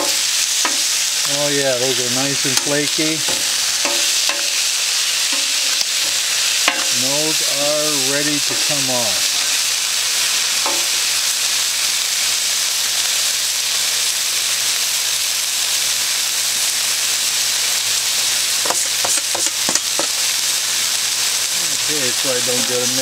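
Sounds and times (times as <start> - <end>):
fish sizzling on a griddle: 0.0 - 23.0.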